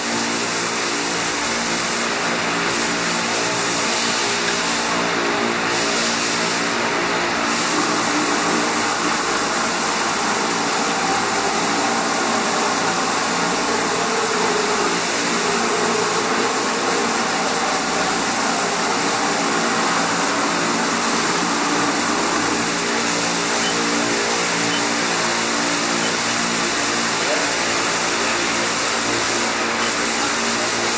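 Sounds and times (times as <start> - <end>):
hiss: 0.0 - 30.9
milling machine hum: 0.0 - 30.9.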